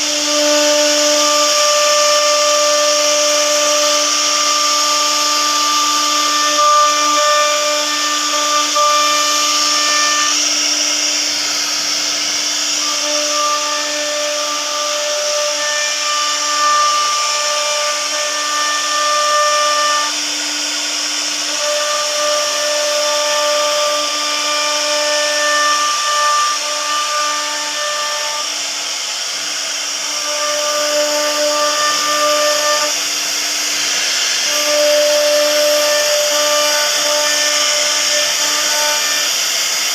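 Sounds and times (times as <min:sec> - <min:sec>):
router spindle whining cutting wood: 0:00.0 - 0:39.9.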